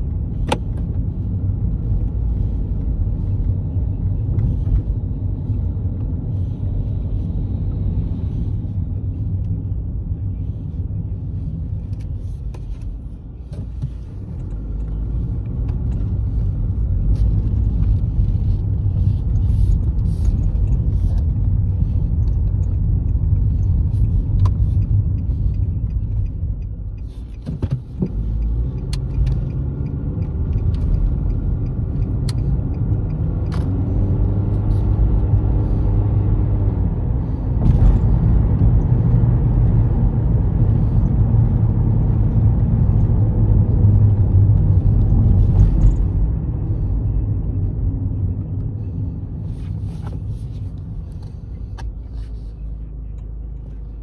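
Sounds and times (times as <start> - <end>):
car driving road noise: 0.0 - 54.0.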